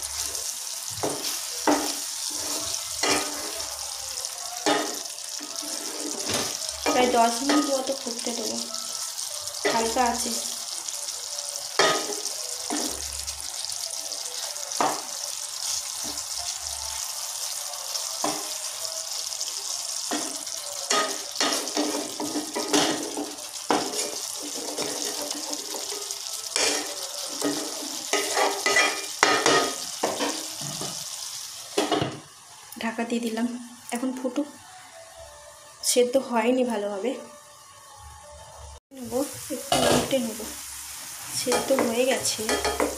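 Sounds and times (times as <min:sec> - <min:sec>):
gravy sizzling and bubbling in pan: 0:00.0 - 0:42.9.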